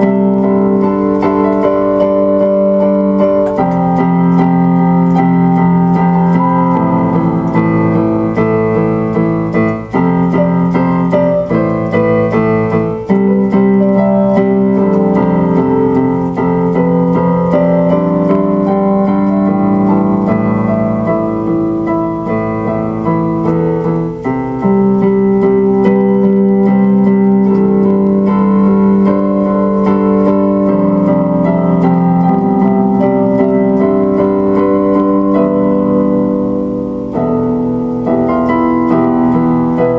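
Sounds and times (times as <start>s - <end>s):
keyboard piano chords: 0.0s - 39.9s.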